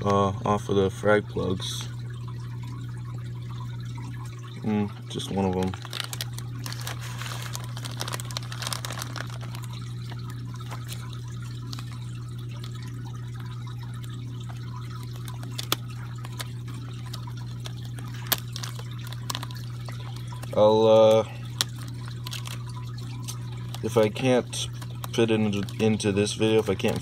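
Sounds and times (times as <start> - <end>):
aquarium water trickling: 0.0 - 27.0.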